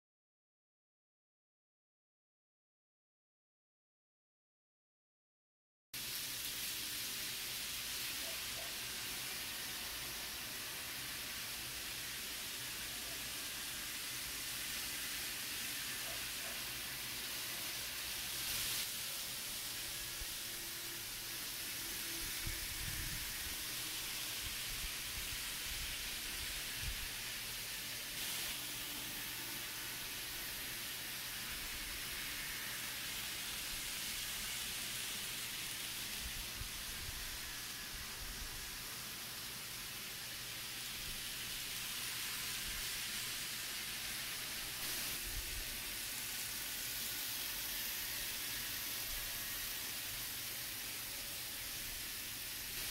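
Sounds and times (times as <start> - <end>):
model trains whirring on track: 6.0 - 52.9.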